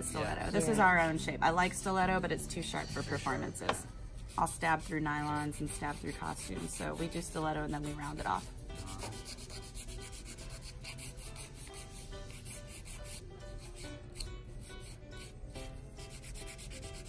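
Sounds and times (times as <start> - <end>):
nail file rasping on nails: 2.1 - 17.0.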